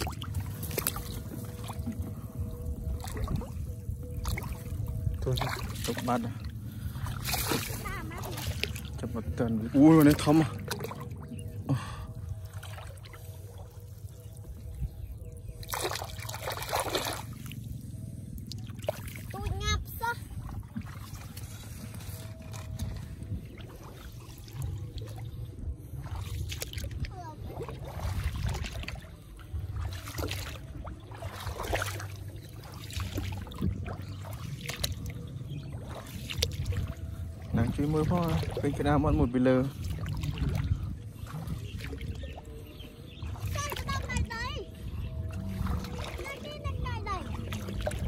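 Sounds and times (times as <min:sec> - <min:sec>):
small splashes of shallow water: 0:00.0 - 0:48.0
wind rumbling on microphone: 0:00.0 - 0:48.0.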